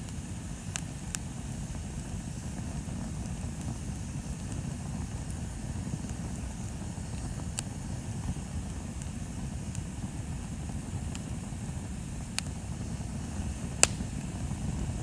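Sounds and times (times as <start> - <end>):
fire crackling pops: 0.0 - 15.0
low rumble of flames: 0.0 - 15.0.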